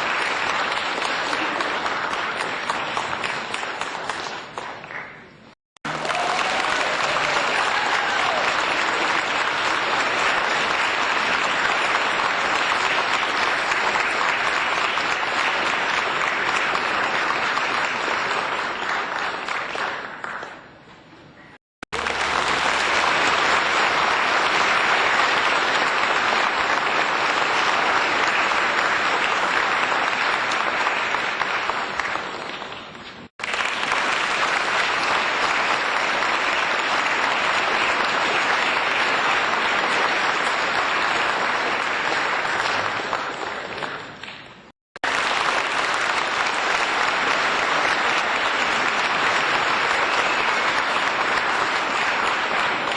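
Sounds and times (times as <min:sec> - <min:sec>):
applause: 0:00.0 - 0:52.9.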